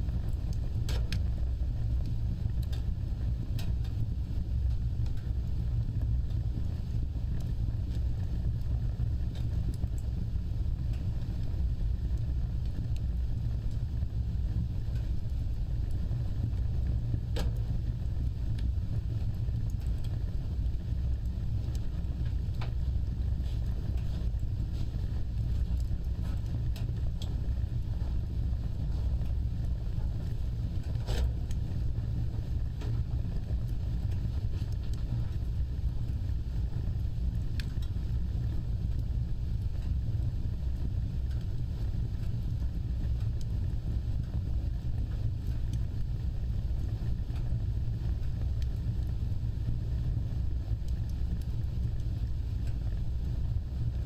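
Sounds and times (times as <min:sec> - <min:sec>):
fire crackles: 0:00.0 - 0:54.0
fire flames rumbling: 0:00.0 - 0:54.0.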